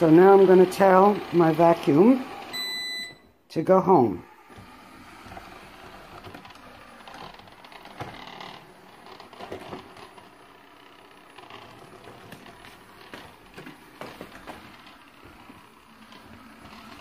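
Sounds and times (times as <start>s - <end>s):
robot vacuum running: 0.0s - 3.0s, 3.9s - 17.0s.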